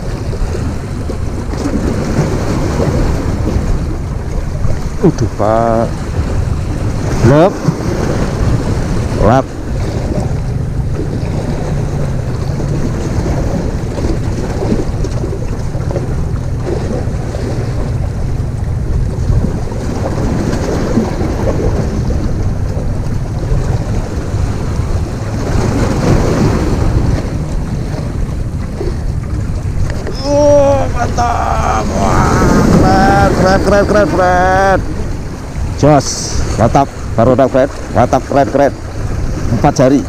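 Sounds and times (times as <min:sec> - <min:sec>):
sea washing against rocks: 0:00.0 - 0:40.0
wind buffeting microphone: 0:00.0 - 0:40.0.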